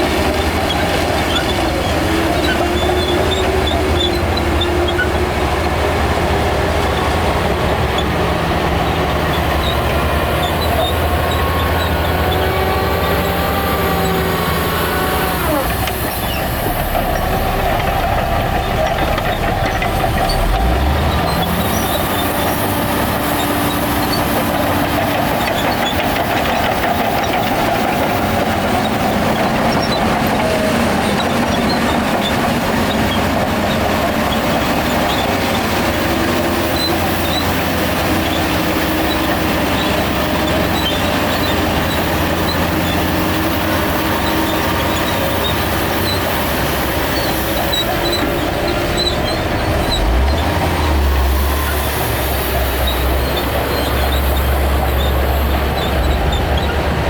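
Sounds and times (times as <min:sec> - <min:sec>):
bulldozer diesel engine: 0:00.0 - 0:57.0
steel tracks clattering and squealing: 0:00.0 - 0:57.0.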